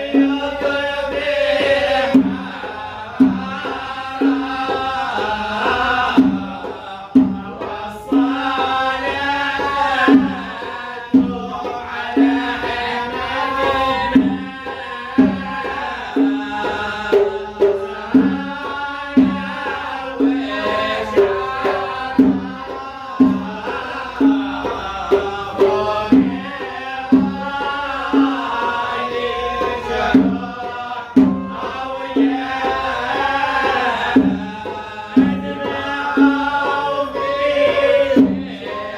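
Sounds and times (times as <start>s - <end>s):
hand drums: 0.0s - 38.9s
voices singing together: 0.0s - 38.9s.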